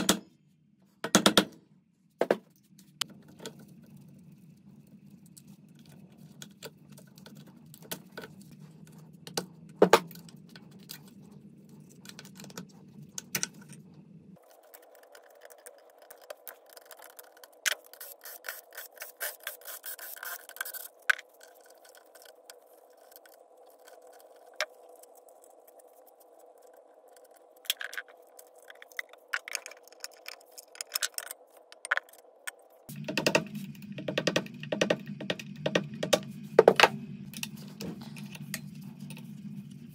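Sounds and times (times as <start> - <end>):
steady background hum: 0.0 - 39.9.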